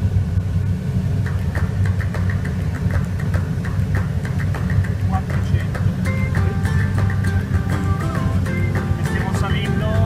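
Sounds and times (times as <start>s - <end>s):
airflow rushing past cockpit: 0.0s - 10.0s.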